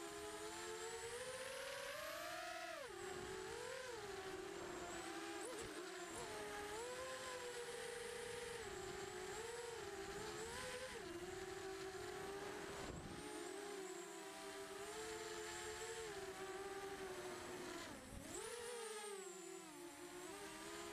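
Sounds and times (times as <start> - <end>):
small motor whining: 0.0 - 20.9.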